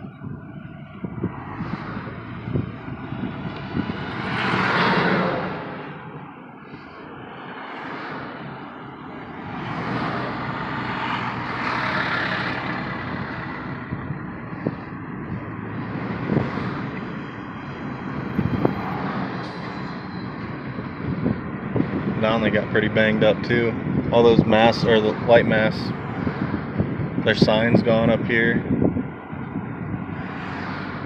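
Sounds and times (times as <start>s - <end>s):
vehicle road and engine noise: 0.0s - 31.0s.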